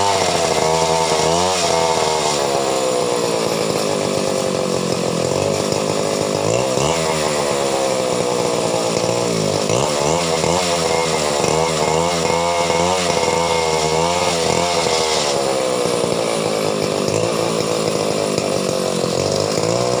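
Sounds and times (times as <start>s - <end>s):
chainsaw engine at high revs: 0.0s - 20.0s.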